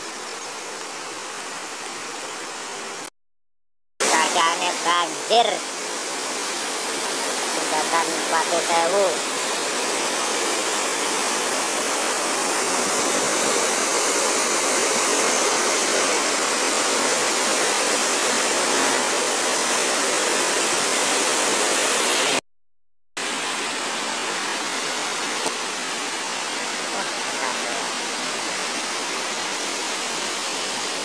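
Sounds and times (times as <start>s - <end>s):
river rushing: 4.0s - 22.4s, 23.2s - 31.0s.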